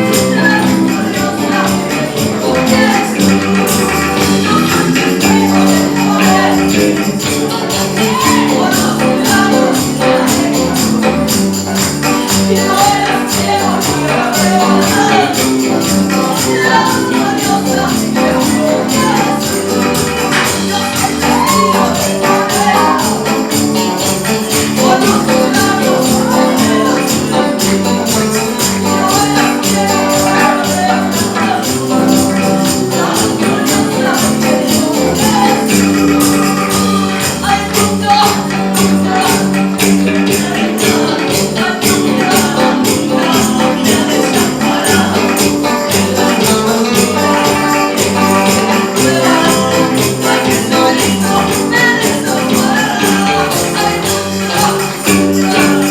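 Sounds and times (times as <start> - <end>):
praise band music: 0.0 - 55.9
tambourine shaking a beat: 0.0 - 55.9.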